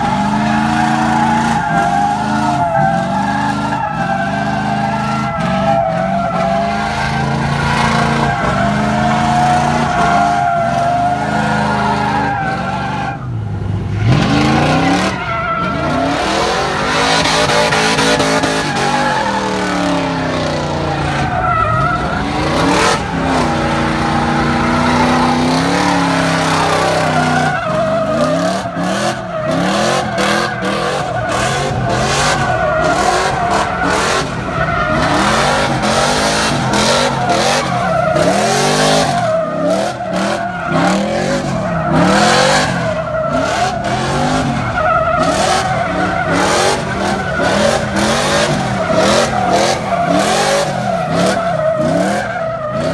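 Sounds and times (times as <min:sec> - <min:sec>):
tyres squealing: 0:00.0 - 0:13.4, 0:14.0 - 0:52.9
engine revving off rev limiter: 0:00.0 - 0:52.9.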